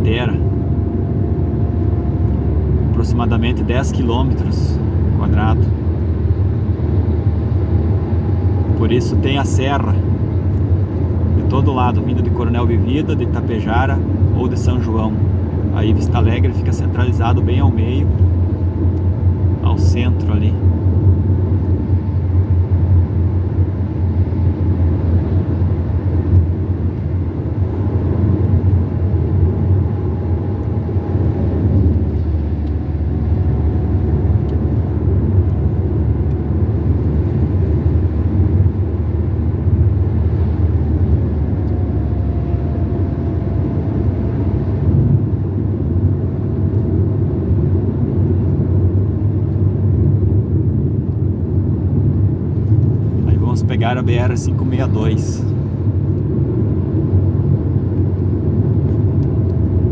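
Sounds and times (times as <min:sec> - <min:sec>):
car engine and road rumble: 0:00.0 - 0:59.9
faint whine: 0:00.0 - 0:59.9.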